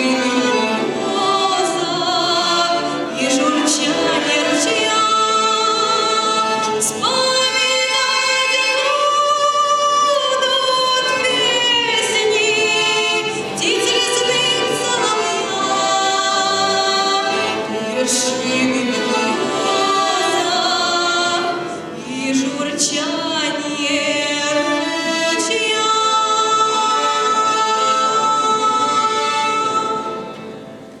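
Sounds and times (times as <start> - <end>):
instrumental accompaniment: 0.0 - 31.0.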